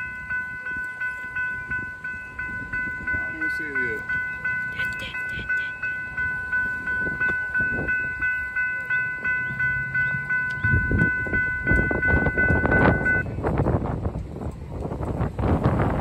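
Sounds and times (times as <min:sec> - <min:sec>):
crossing warning bell ringing: 0:00.0 - 0:16.0
low train rumble: 0:00.0 - 0:16.0.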